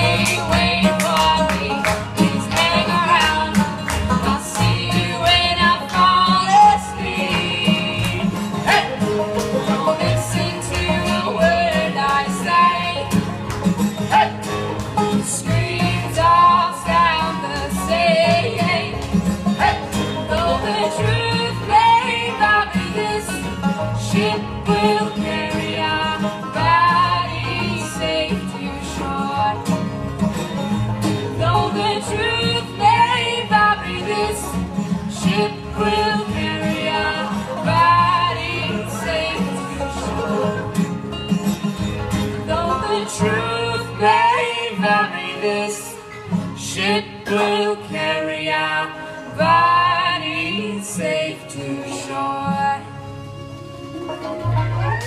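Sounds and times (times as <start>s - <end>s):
voices singing along: 0.0s - 13.4s, 14.0s - 29.6s, 31.3s - 40.8s, 42.3s - 52.9s
acoustic guitar strumming: 0.0s - 55.0s
banjo: 0.0s - 55.0s
plucked upright bass: 0.0s - 55.0s.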